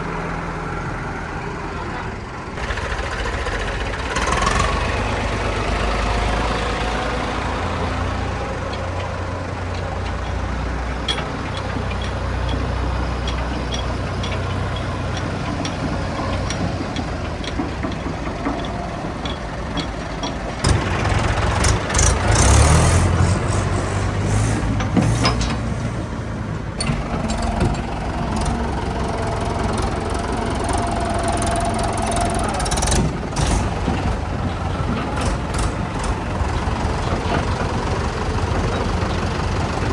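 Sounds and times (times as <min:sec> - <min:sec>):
diesel engine running: 0:00.0 - 0:39.9
engine knocks and clatter: 0:00.0 - 0:39.9.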